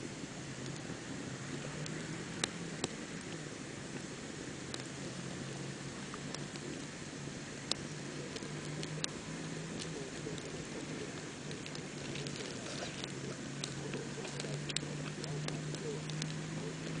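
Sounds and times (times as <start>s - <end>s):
campfire crackling: 0.0s - 17.0s
fire popping: 0.0s - 17.0s.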